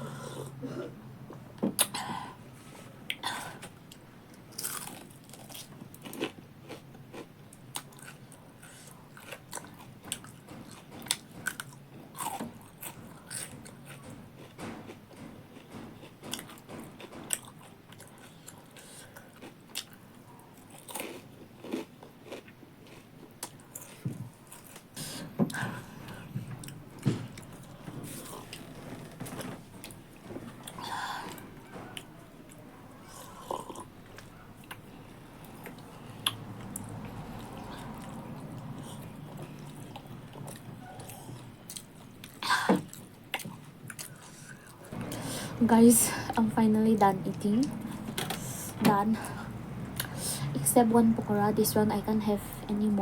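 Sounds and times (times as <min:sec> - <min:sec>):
person chewing crunchy food: 0:03.1 - 0:45.6.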